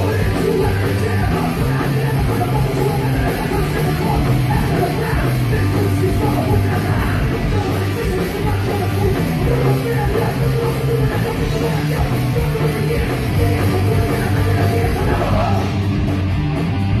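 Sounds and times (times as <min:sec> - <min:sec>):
loud live rock band: 0:00.0 - 0:17.0.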